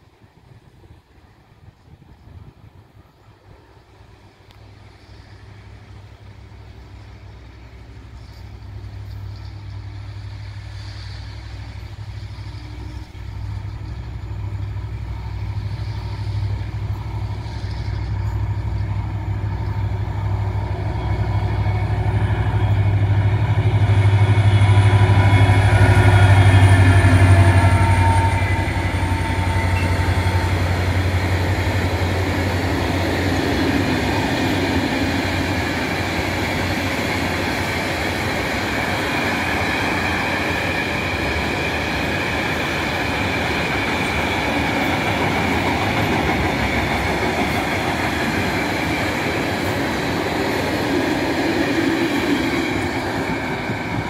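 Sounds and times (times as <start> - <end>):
diesel locomotive engine under load: 0.0 - 54.0.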